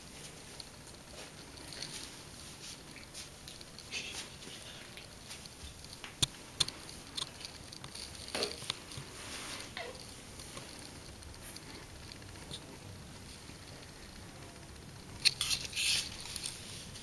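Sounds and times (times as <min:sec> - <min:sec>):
small paws pattering: 0:00.1 - 0:14.1.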